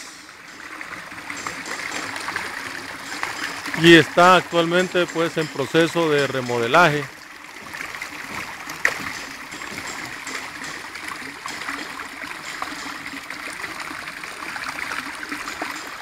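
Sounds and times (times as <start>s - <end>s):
water running: 0.0s - 16.0s.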